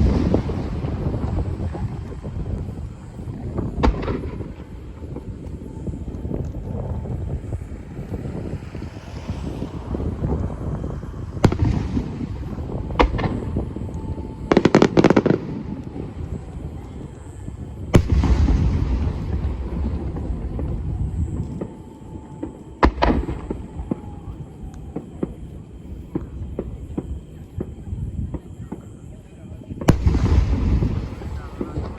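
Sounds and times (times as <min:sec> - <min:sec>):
crackling fireworks reports: 0:00.0 - 0:31.9
fireworks bangs with rumble: 0:00.0 - 0:31.9.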